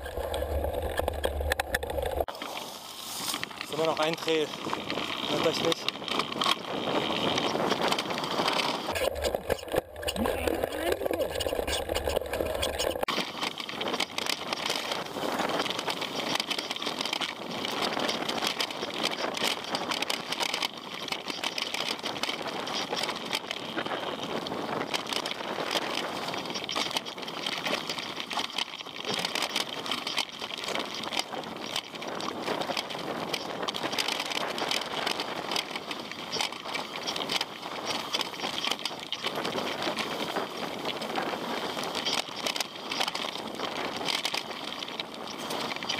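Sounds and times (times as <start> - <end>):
bike clattering over stones: 0.0 - 2.6, 3.2 - 45.9.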